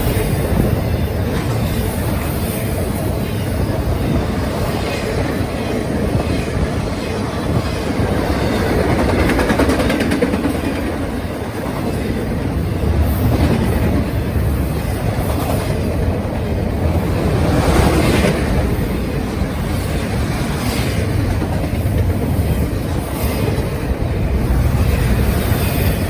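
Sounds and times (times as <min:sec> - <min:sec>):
train cars rumbling past: 0:00.0 - 0:26.0
wheels clicking over rail joints: 0:04.8 - 0:26.0.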